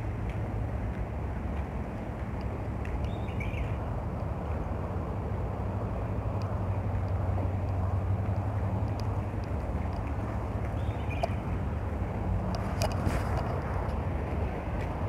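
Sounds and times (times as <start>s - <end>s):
constant low hum: 0.0s - 15.0s
traffic rumble on highway: 0.0s - 15.0s.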